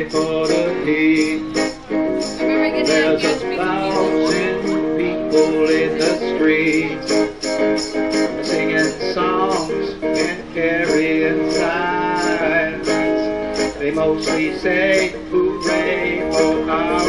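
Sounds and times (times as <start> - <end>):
acoustic guitar strumming: 0.0 - 17.0
man singing: 0.0 - 17.0.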